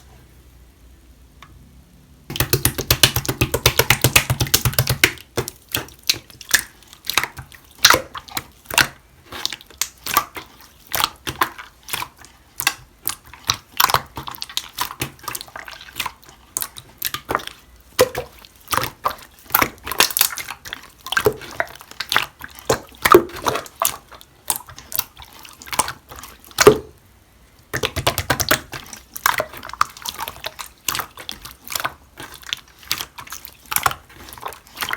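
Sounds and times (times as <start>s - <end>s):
slime squished by hand: 2.3s - 27.0s, 27.7s - 34.9s.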